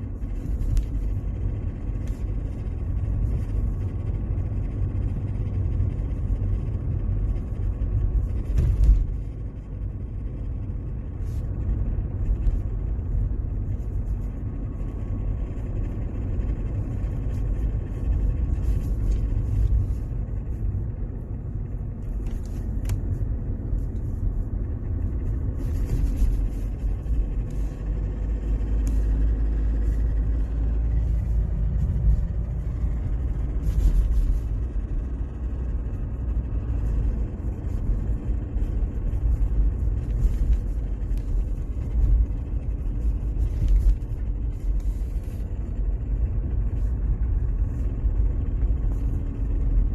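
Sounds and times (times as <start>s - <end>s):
car driving rumble: 0.0s - 49.9s
scraping rattling under car: 0.0s - 49.9s.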